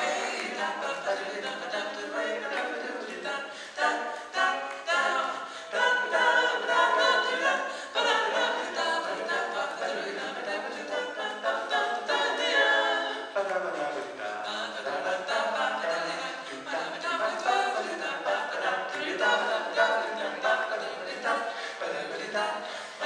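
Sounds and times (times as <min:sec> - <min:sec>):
male vocal quartet singing: 0:00.0 - 0:23.0.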